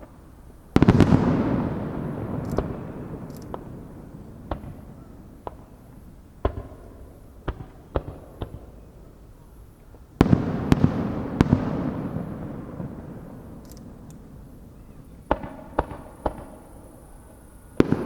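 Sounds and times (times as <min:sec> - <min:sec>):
fireworks cracking: 0:00.0 - 0:08.8, 0:10.2 - 0:18.0.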